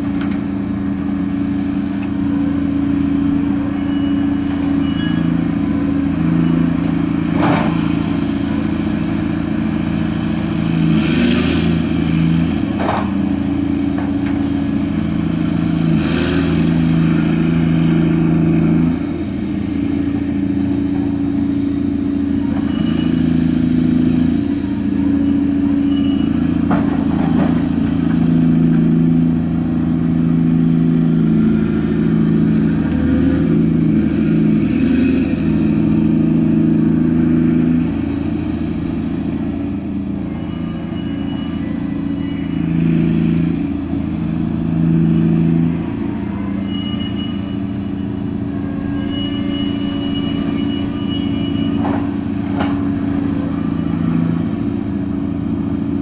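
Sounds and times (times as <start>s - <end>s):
crane engine and hydraulics: 0.0s - 56.0s.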